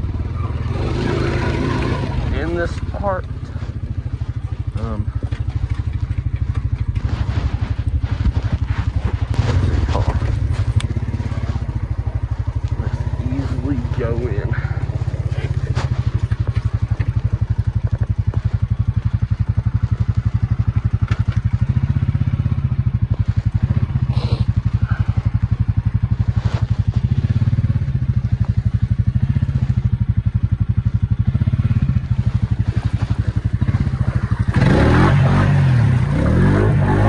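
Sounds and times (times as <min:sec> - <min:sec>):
atv engine chugging: 0:00.0 - 0:37.0.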